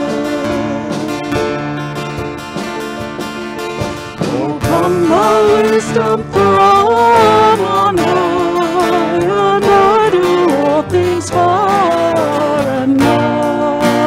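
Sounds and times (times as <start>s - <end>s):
person singing: 0.0s - 2.2s, 3.8s - 14.0s
acoustic guitar: 0.0s - 14.0s
band playing a slow hymn: 0.0s - 14.0s.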